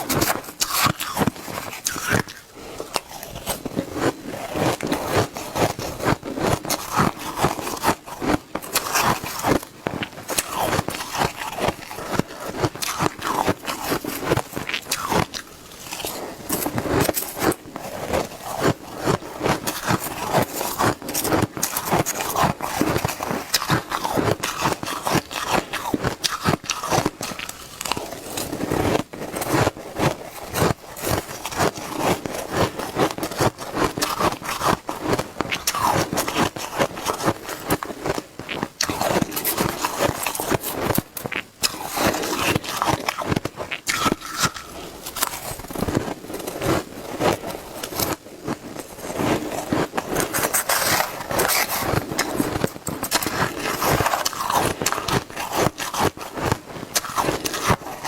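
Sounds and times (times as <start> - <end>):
shaved ice crunching: 0.0 - 58.0.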